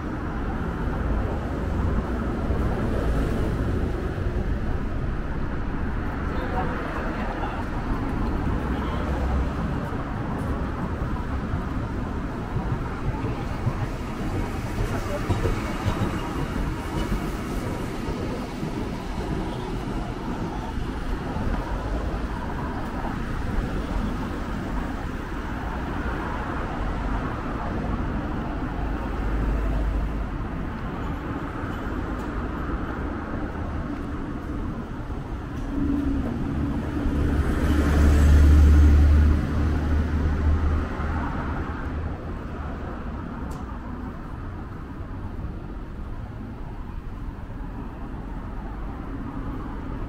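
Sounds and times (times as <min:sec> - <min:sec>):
passing vehicles: 0:00.0 - 0:50.0.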